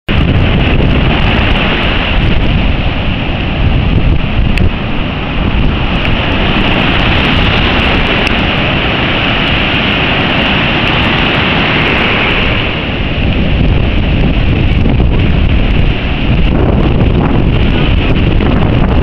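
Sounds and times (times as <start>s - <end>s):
pounding surf: 0.1s - 19.0s
wind buffeting microphone: 0.1s - 19.0s.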